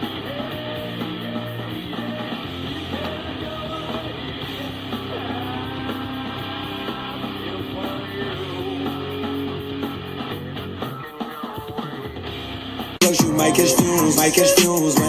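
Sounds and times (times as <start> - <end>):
rock music through loudspeaker: 0.0 - 15.0.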